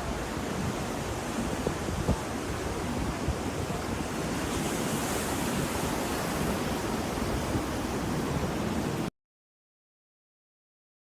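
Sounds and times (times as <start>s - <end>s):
ocean waves washing on shore: 0.0s - 9.1s.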